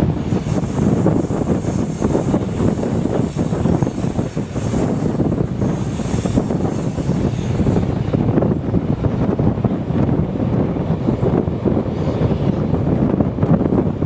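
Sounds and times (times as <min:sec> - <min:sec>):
train rumbling on track: 0:00.0 - 0:14.0
wind buffeting microphone: 0:00.0 - 0:14.0.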